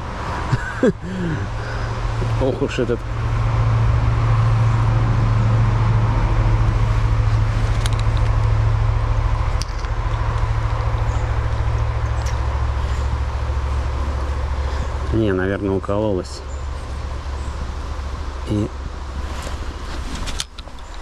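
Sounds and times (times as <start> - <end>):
deep low rumble: 0.0 - 20.1
stream water rushing: 0.0 - 21.0.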